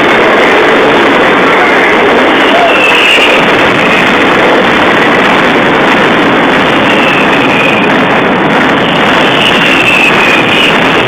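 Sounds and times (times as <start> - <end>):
fireworks bangs and crackles: 0.0 - 11.0
whistling firework: 0.0 - 11.0.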